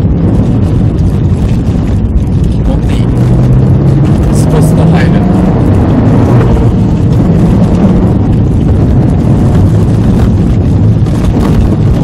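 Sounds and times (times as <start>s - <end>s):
car engine droning: 0.0s - 12.0s
road and drivetrain noise: 0.0s - 12.0s.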